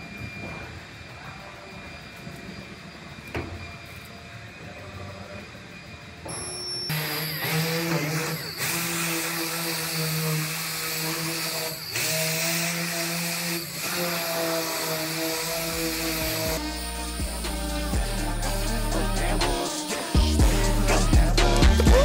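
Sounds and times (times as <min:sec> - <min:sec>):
air die grinder whining on metal: 0:00.0 - 0:22.0.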